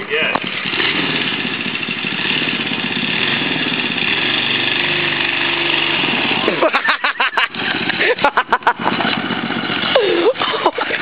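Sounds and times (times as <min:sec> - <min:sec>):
minibike engine running: 0:00.0 - 0:11.0.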